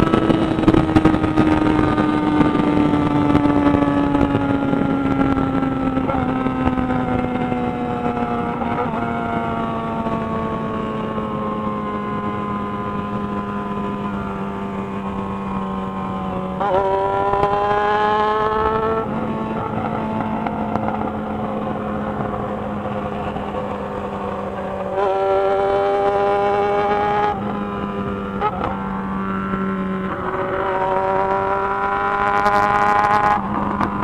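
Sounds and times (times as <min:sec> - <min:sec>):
motorcycle engine while riding: 0:00.0 - 0:34.0.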